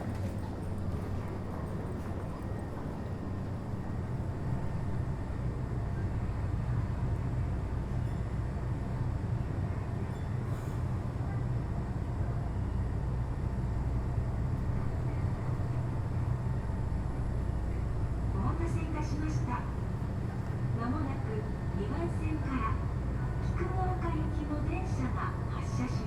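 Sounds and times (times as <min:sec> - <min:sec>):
low equipment hum: 0:00.0 - 0:08.6, 0:12.2 - 0:26.0.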